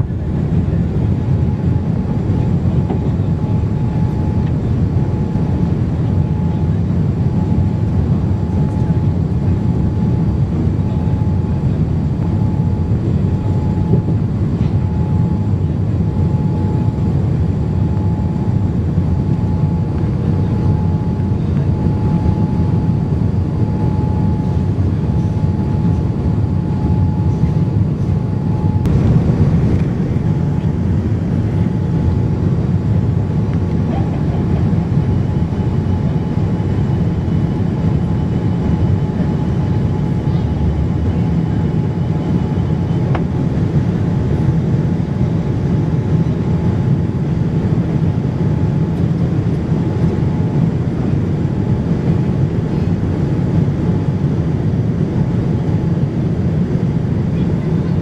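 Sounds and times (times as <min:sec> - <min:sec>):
faint steady whine: 0:00.0 - 0:56.8
airflow and engine drone: 0:00.0 - 0:58.0.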